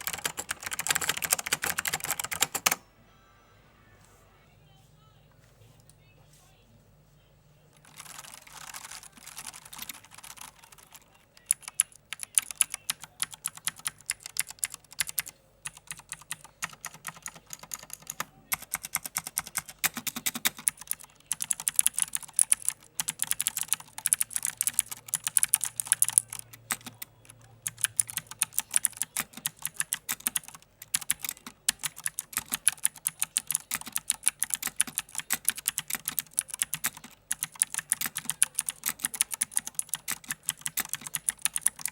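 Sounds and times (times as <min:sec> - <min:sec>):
mechanical keyboard typing: 0:00.0 - 0:02.8, 0:07.8 - 0:41.9.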